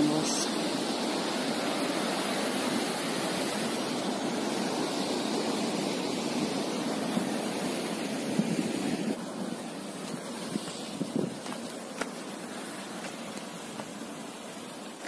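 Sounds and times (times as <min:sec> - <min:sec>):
ocean surf breaking against cliffs: 0:00.0 - 0:15.0.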